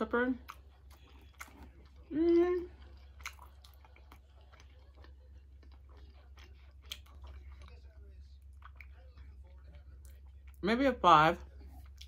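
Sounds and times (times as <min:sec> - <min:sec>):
person chewing food: 0:00.3 - 0:10.6, 0:11.5 - 0:12.0.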